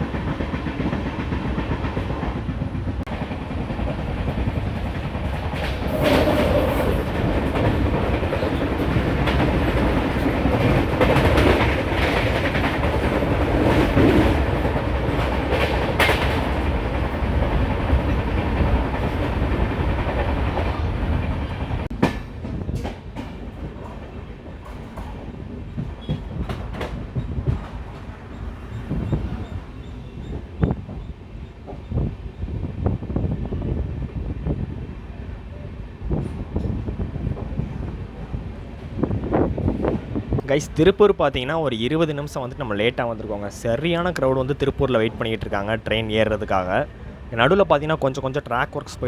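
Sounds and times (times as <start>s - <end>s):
clickety-clack over rail joints: 0.0s - 49.0s
train wheels rumbling on rails: 0.0s - 49.0s.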